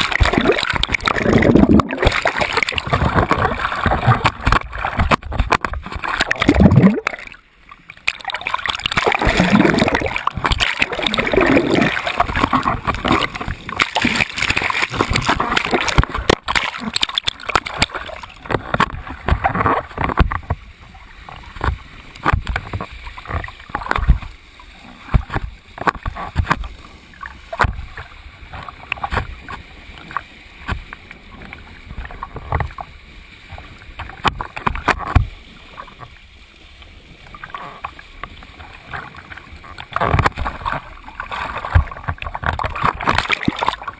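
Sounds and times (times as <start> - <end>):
water splashing and churning: 0.0 - 43.9.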